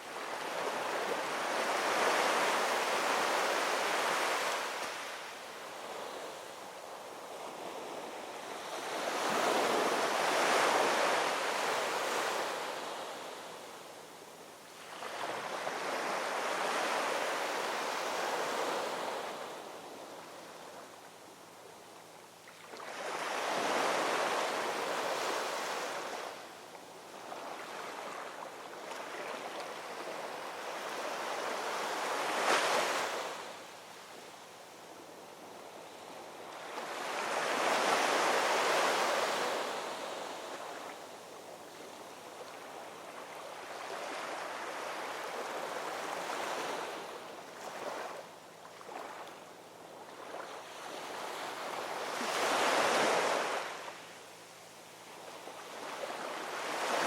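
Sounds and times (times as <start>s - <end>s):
ocean waves breaking on shore: 0.0s - 13.9s, 14.8s - 20.9s, 22.4s - 34.1s, 35.9s - 41.3s, 42.0s - 49.3s, 50.0s - 54.1s, 55.1s - 57.0s.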